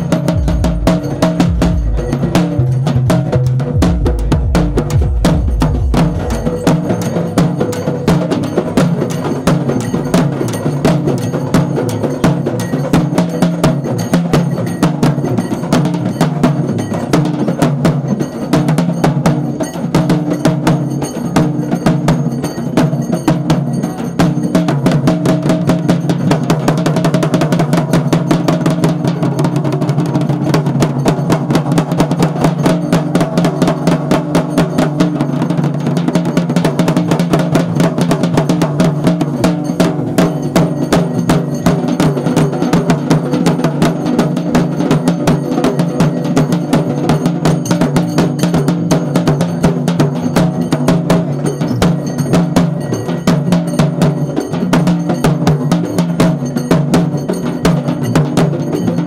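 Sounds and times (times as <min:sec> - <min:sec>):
fast festival drumming: 0:00.0 - 0:59.0.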